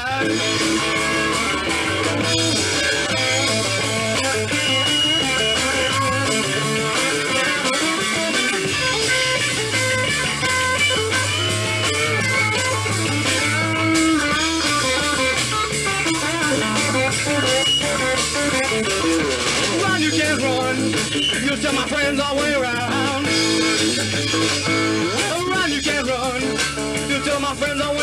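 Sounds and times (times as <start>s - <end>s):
bass guitar line: 0.0s - 28.0s
electric guitar picking notes: 0.0s - 28.0s.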